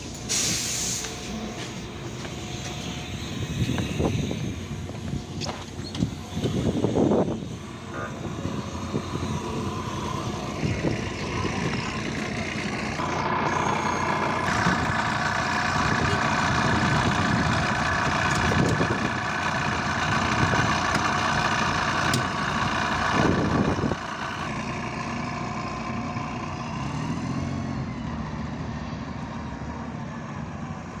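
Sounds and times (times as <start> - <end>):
steady whine: 0.0 - 25.2
bus diesel engine idling: 0.0 - 27.9.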